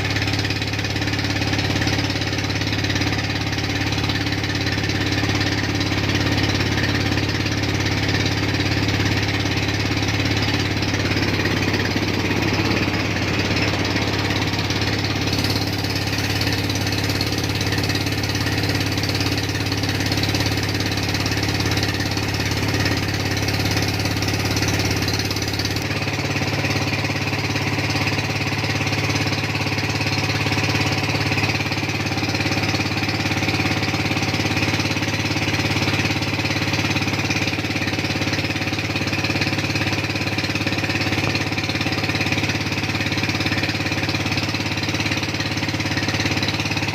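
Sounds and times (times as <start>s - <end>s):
boat engine droning: 0.0s - 38.2s.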